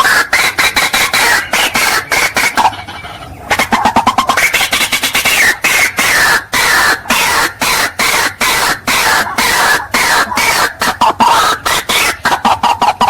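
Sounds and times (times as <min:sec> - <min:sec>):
waterhen croaking calls: 0:00.0 - 0:13.0.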